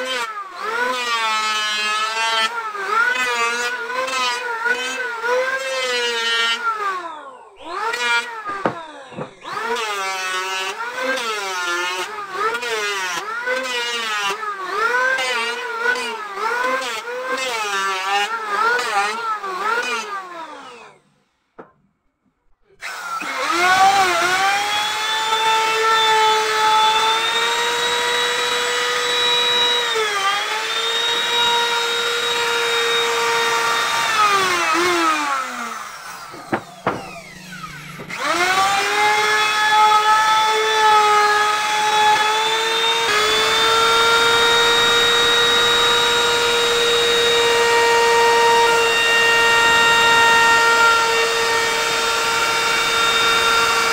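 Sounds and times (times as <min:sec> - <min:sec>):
electric wood router whining: 0:00.0 - 0:21.1, 0:22.7 - 0:53.9.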